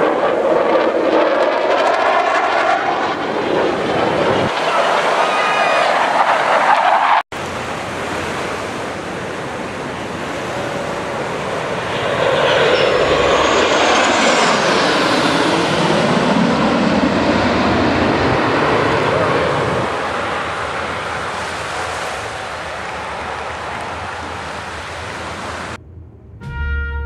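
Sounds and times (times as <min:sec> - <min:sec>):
jet aircraft passing overhead: 0:00.0 - 0:27.0.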